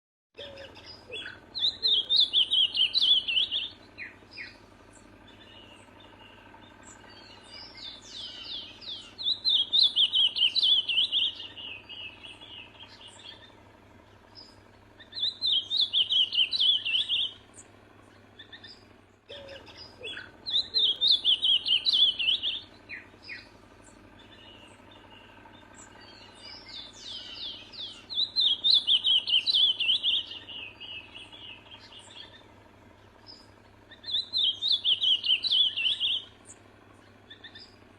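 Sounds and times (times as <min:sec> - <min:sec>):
bird singing warbled phrases: 0:00.4 - 0:37.9.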